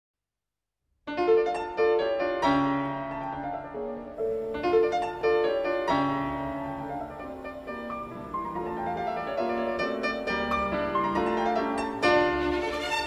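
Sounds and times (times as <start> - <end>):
piano music: 1.1 - 13.0.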